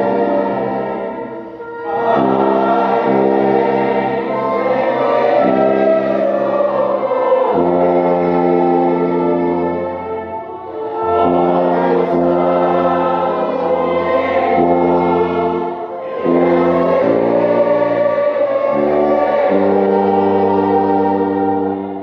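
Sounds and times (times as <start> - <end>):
other instruments: 0.0 - 22.0
tuba playing a hymn: 0.0 - 22.0
voices singing: 0.0 - 22.0.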